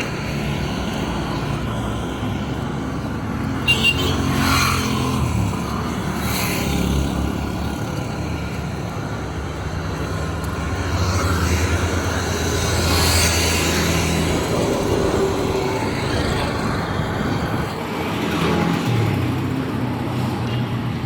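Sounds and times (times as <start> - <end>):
street traffic passing: 0.0 - 21.0.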